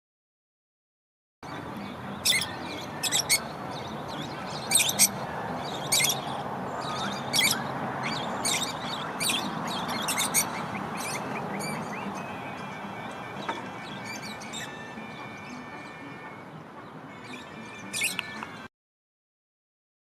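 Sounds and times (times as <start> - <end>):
small birds chirping: 1.4 - 18.7
steady background noise: 1.4 - 18.7.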